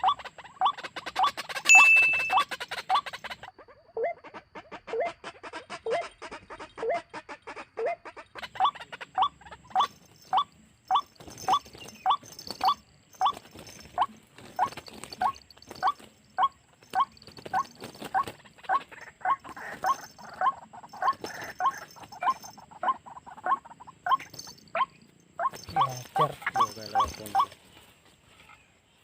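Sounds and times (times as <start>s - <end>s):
waterhen calling kwak: 0.0s - 27.6s.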